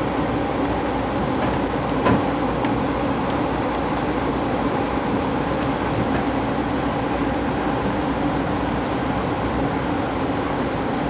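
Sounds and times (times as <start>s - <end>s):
train car rolling along rails: 0.0s - 11.0s.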